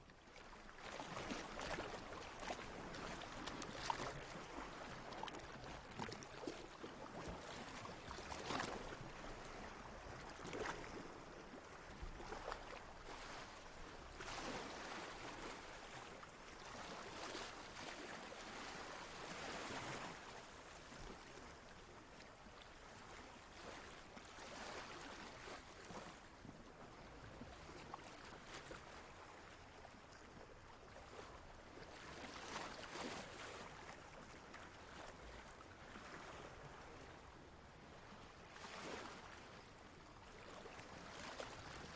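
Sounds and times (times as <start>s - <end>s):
quiet water wash: 0.0s - 41.9s
water lapping and splashing: 0.0s - 41.9s.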